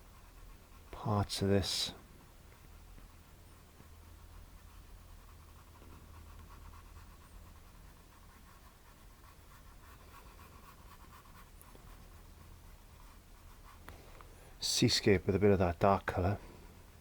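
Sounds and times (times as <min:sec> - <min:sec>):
paintbrush brushing on canvas: 0:00.0 - 0:16.3.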